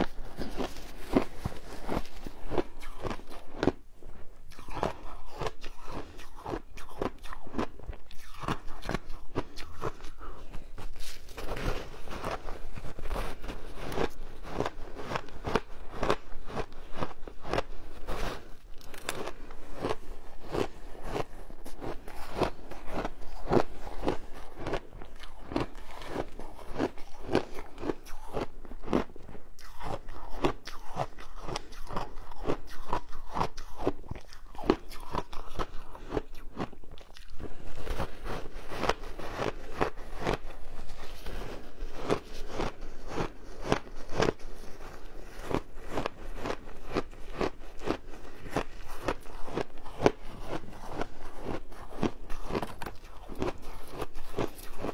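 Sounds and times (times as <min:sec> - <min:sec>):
person crunching shaved ice: 0:00.0 - 0:54.9.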